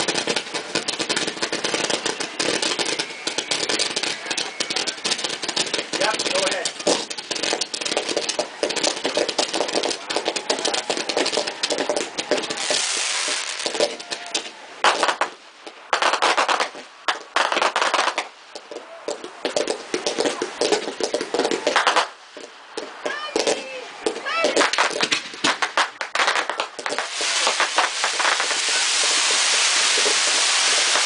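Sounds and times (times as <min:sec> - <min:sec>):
fireworks bursts: 0:00.0 - 0:31.0
fireworks crackling and popping: 0:00.0 - 0:31.0
fireworks hissing: 0:00.0 - 0:31.0.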